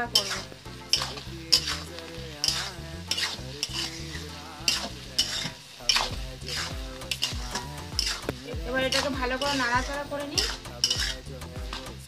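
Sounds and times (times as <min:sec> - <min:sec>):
metal spatula scraping pan: 0:00.0 - 0:11.3
vegetables sizzling in pan: 0:00.0 - 0:12.0.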